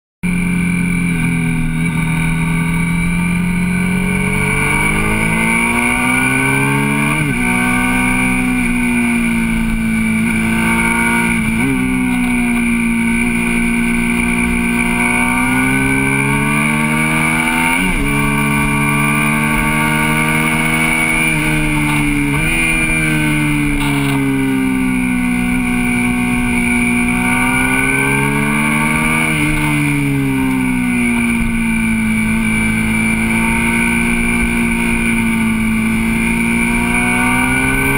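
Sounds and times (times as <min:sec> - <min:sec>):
motorcycle engine: 0:00.2 - 0:37.9
wind and road noise: 0:00.2 - 0:37.9.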